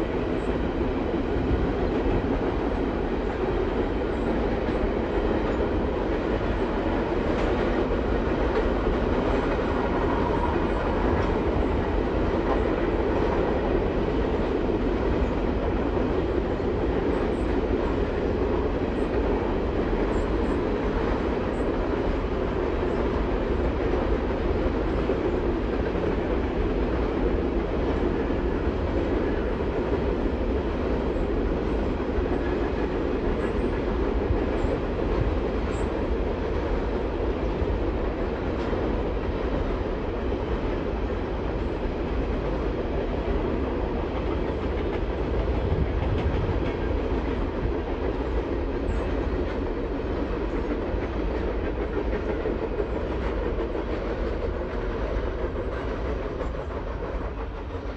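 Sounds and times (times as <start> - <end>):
train wheels on rail: 0.0 - 57.9.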